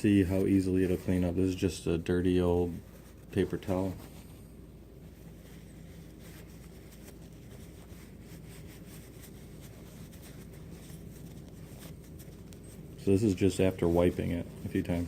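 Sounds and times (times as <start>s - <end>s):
paper towel rubbing metal: 0.0s - 4.4s, 5.0s - 15.0s
low room hum: 0.0s - 15.0s.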